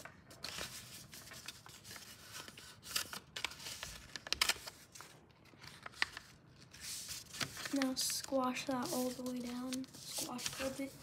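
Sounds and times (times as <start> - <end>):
paper rustling and crackling: 0.0 - 11.0.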